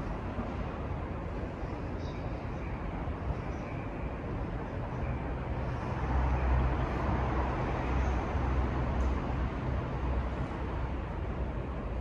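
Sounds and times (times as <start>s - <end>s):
railway station rumble and hiss: 0.0s - 12.0s.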